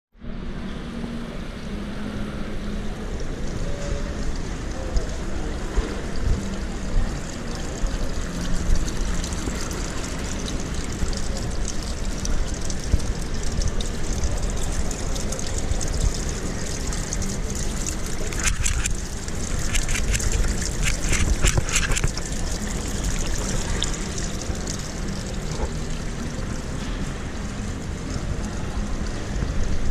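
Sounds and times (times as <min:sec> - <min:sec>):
crackling water splashes: 0:03.3 - 0:29.9
water drops pattering down: 0:04.0 - 0:29.9.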